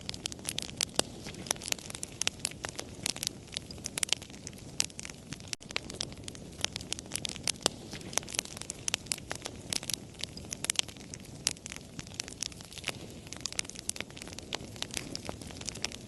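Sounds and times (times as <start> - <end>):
fire crackling and popping: 0.0 - 16.0
steady rush of burning: 0.0 - 16.0.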